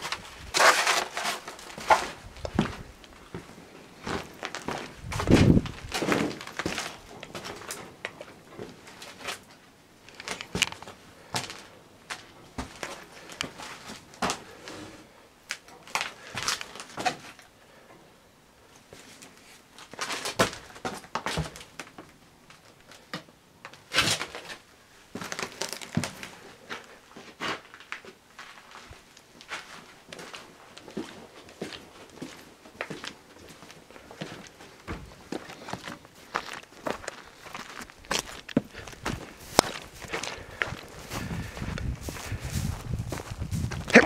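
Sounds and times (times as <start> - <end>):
footsteps crunching on debris: 0.0 - 14.6, 15.5 - 17.4, 23.8 - 44.0.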